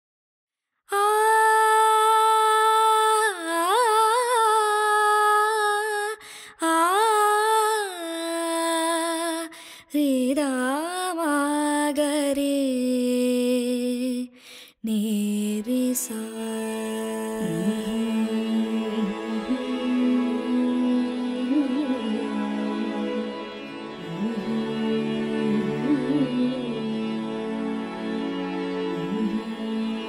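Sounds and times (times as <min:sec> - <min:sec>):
person singing wordless melody: 0:00.9 - 0:30.0.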